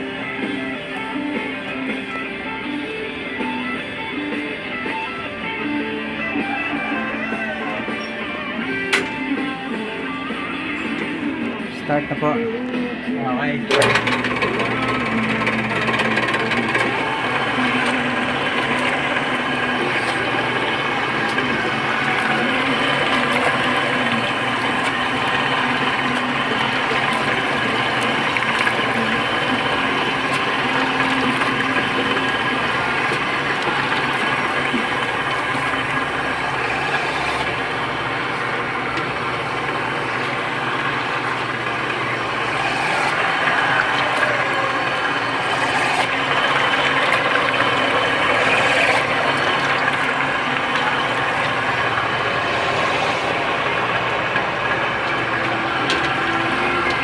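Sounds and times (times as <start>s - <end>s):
wet rice grinder running: 0.0s - 12.4s, 13.6s - 57.0s.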